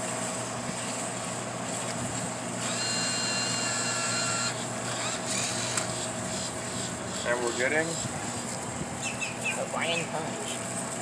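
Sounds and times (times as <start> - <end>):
machine hum: 0.0 - 11.0
vending machine motor whine: 0.0 - 11.0.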